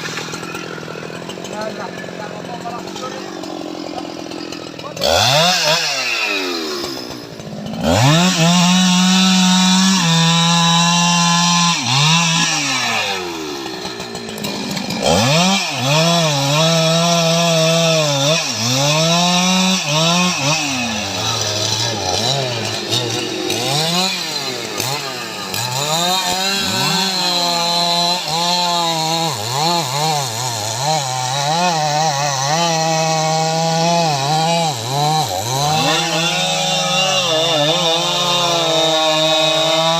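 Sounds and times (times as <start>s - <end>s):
chainsaw cutting into wood: 0.0s - 39.9s.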